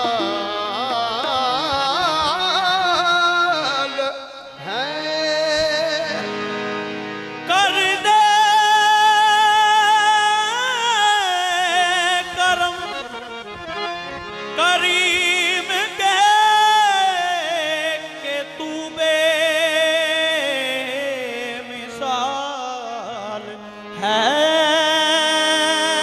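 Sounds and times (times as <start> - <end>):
harmonium chords: 0.0 - 26.0.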